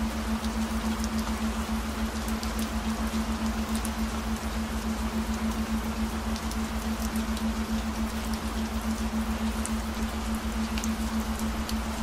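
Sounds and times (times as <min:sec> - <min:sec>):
steady rain: 0:00.0 - 0:12.0
sharp raindrop ticks: 0:00.2 - 0:12.0.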